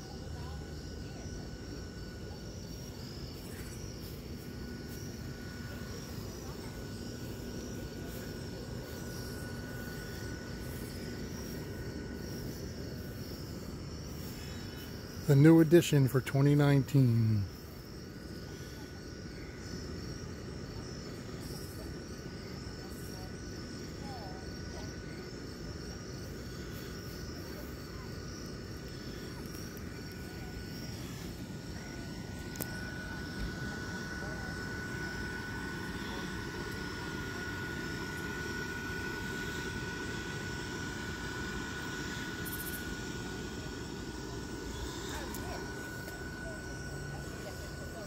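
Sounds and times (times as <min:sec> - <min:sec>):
crickets chirping: 0:00.0 - 0:48.0
electric blower fans whirring: 0:00.0 - 0:48.0.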